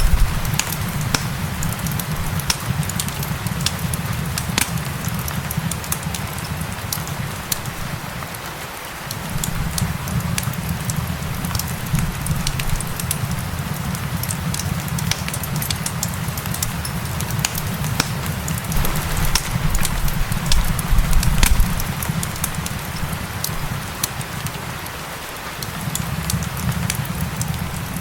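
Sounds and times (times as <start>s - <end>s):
gentle rain hiss: 0.0s - 28.0s
wood fire crackling and popping: 0.0s - 28.0s.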